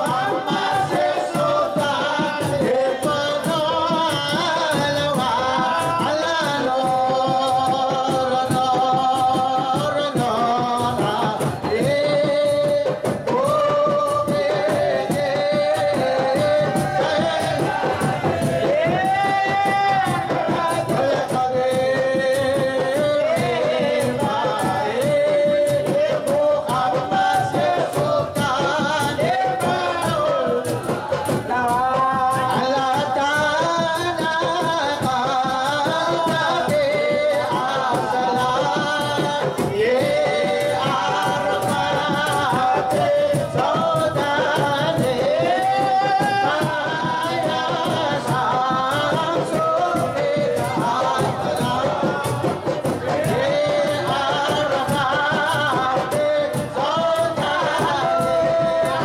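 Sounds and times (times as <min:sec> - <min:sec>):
frame drums beating: 0:00.0 - 0:59.0
men singing a devotional chant: 0:00.0 - 0:59.0.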